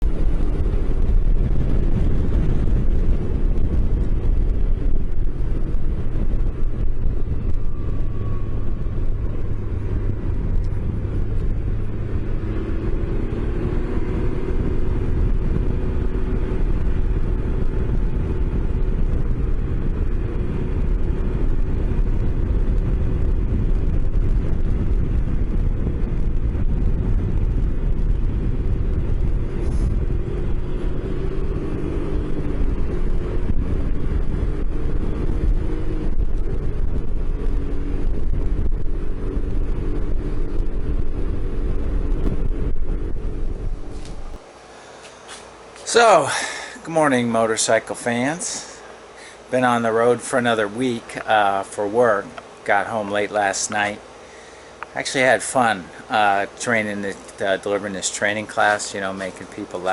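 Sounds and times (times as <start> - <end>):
road and wind noise: 0.0 - 59.9
vehicle engine running: 0.0 - 59.9.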